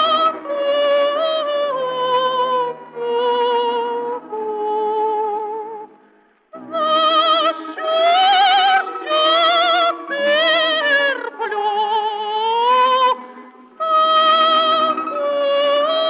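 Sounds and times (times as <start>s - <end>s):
woman singing operatically: 0.0s - 5.9s, 6.6s - 13.2s, 13.8s - 16.0s.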